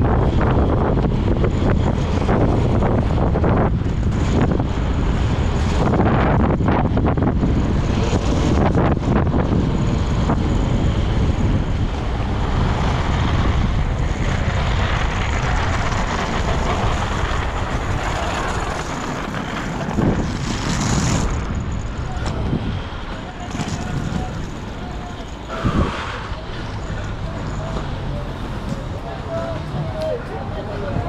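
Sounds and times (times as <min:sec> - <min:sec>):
roller-skate wheels on pavement: 0:00.0 - 0:10.5, 0:11.1 - 0:31.0
wind buffeting microphone: 0:00.0 - 0:31.0.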